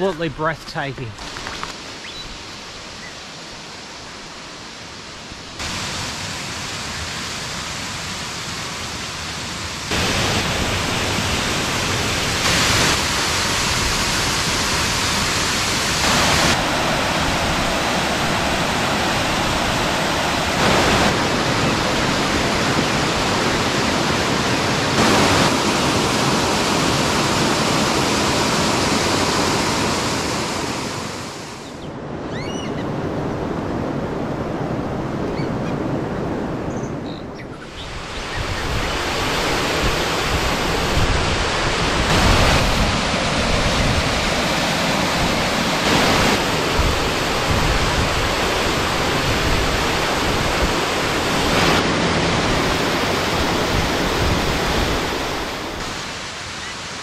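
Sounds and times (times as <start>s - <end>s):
water rushing over dam: 0.0s - 31.6s, 37.8s - 57.0s.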